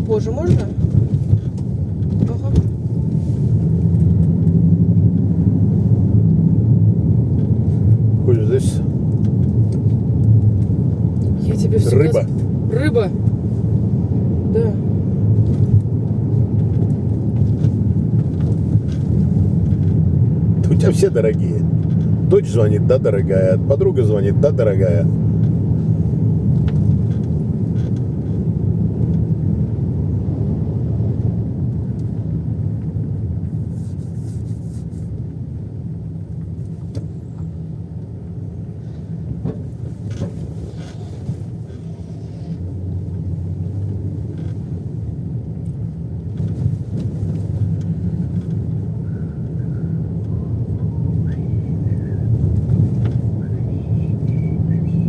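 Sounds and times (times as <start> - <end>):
road and engine noise in car: 0.0 - 55.0.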